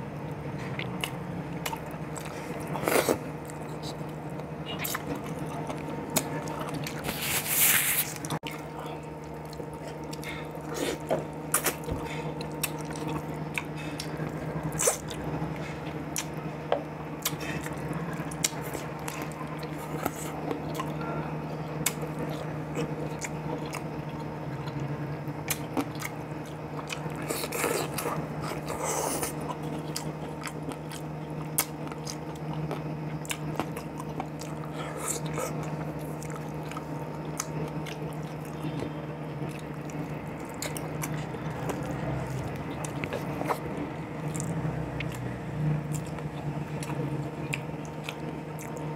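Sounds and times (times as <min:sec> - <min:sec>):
steady low hum: 0:00.0 - 0:48.9
person chewing and lip smacking: 0:00.3 - 0:07.4, 0:08.1 - 0:48.9.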